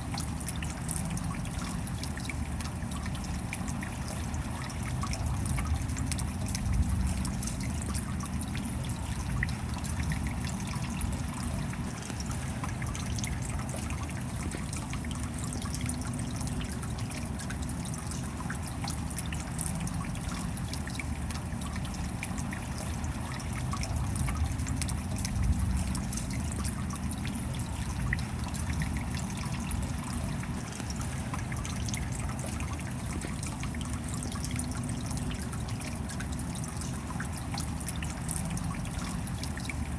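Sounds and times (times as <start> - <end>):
steady rain: 0.0 - 39.9
water trickling and dripping: 0.0 - 39.9.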